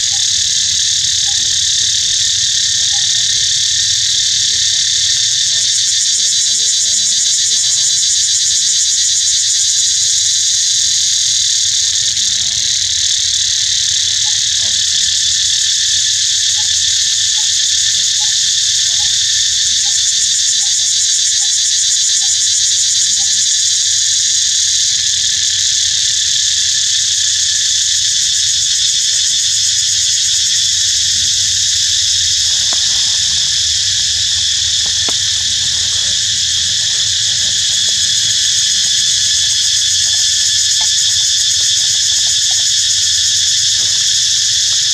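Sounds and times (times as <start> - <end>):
insect chorus shrilling: 0.0 - 44.9.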